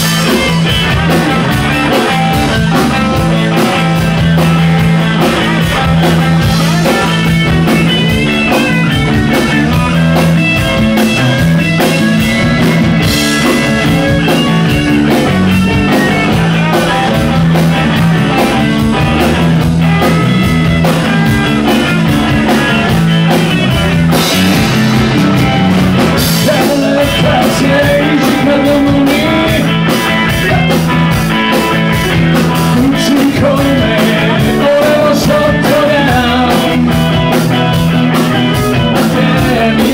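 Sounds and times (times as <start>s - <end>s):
drum and cymbal beats: 0.0s - 39.9s
live rock band playing: 0.0s - 39.9s.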